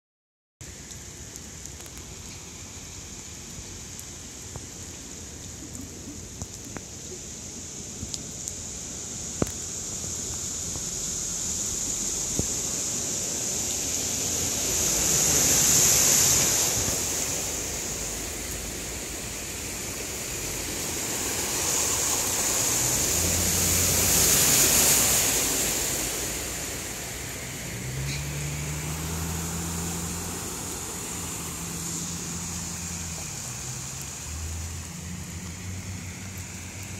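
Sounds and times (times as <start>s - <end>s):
floodwater rushing: 0.6s - 36.9s.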